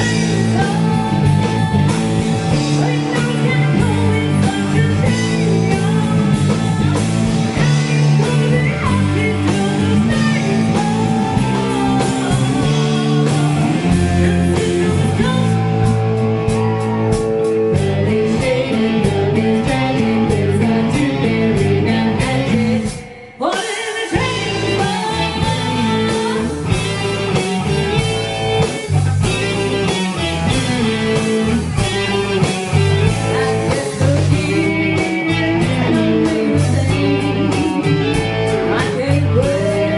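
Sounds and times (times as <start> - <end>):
rock band with guitar and singing: 0.0 - 39.9.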